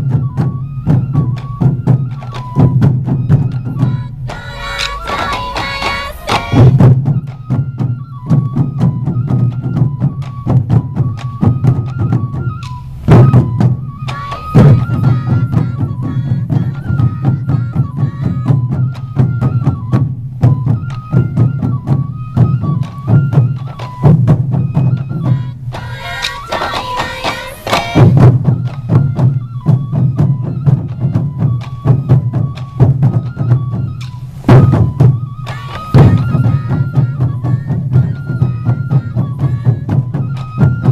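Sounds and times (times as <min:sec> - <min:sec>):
bamboo flute melody: 0:00.0 - 0:40.9
taiko drums beating: 0:00.0 - 0:40.9.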